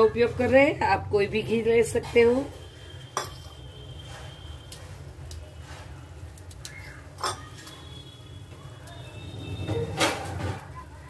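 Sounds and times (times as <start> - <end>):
semolina sizzling in a pan: 0.0 - 11.0.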